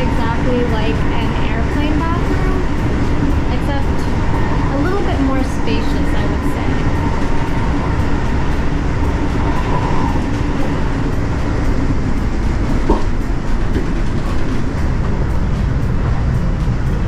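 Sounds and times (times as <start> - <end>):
train rumble inside car: 0.0 - 17.0.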